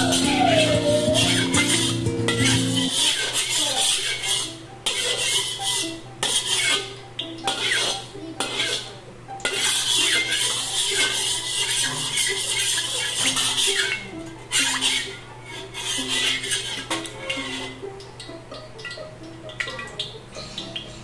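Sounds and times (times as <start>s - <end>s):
metal spatula scraping a wok: 0.0s - 17.8s.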